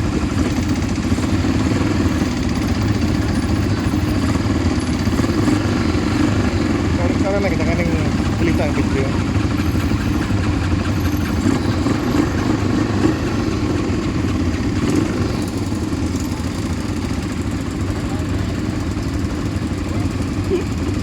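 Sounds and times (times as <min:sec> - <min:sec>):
atv engine humming: 0:00.0 - 0:21.0.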